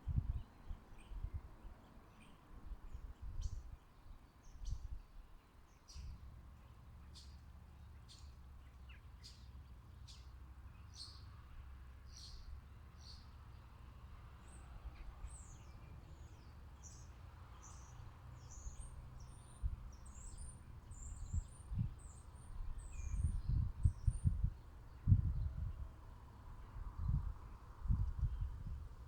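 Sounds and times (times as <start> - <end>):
small birds chirping: 0.3 - 13.7, 14.4 - 29.0.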